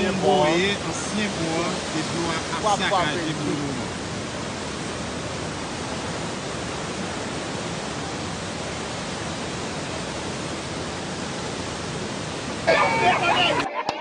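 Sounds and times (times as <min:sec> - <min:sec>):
river rushing in flood: 0:00.0 - 0:13.8.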